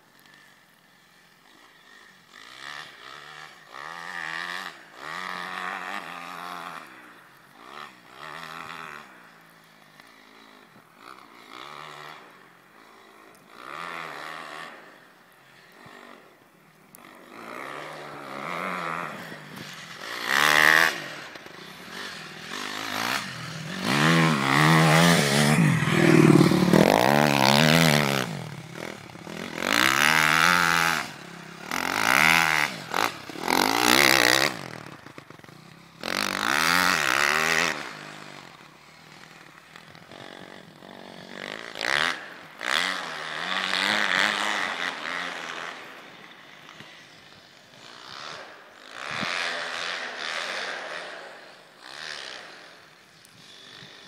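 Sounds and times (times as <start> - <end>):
dirt bike engine revving: 0.3 - 54.0.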